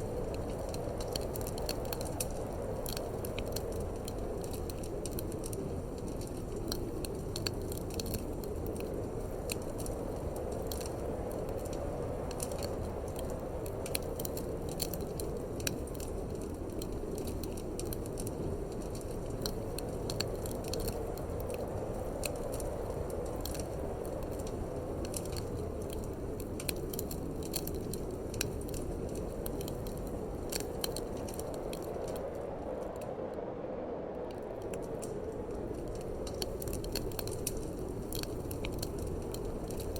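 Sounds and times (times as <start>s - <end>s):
wood fire crackling and popping: 0.0s - 33.4s, 34.1s - 39.9s
low rush of wind: 0.0s - 39.9s.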